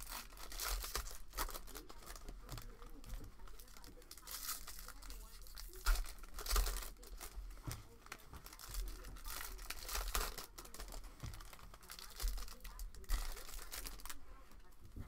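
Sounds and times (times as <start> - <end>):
foil wrapper crinkling and tearing: 0.0 - 14.7.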